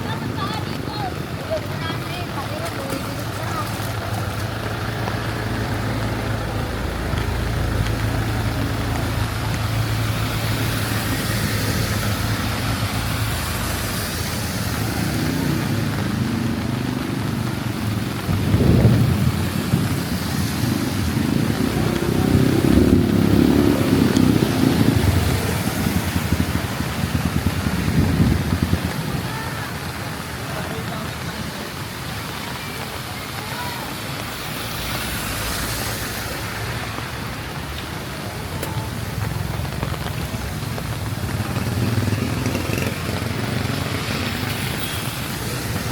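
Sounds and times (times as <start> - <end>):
steady rain: 0.0 - 45.9
vehicles passing on wet road: 0.0 - 45.9.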